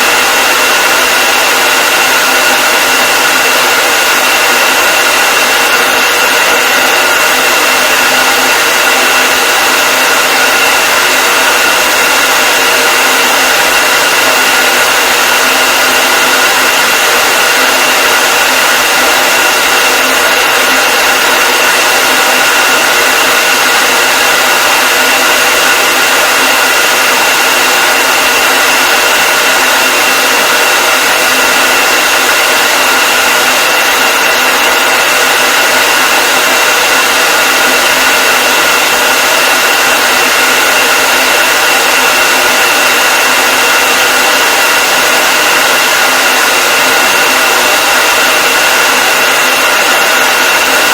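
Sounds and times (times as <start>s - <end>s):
hair dryer running: 0.0s - 50.9s.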